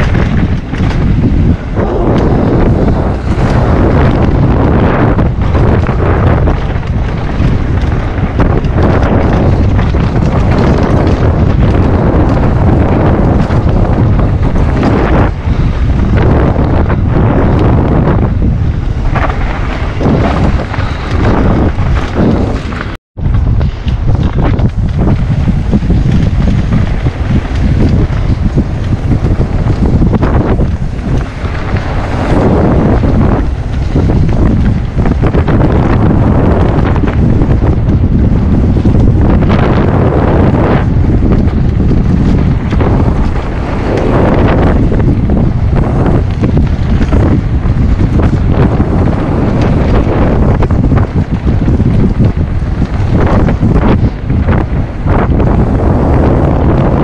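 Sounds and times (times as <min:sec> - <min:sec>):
bike knocks and rattles: 0:00.0 - 0:57.0
tyres rumbling over ground: 0:00.0 - 0:57.0
wind buffeting microphone: 0:00.0 - 0:57.0.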